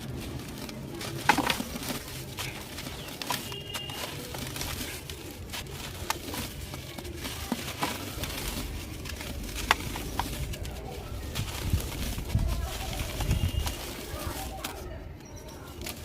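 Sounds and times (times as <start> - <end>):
dry material crumbling and crunching: 0.0 - 16.0.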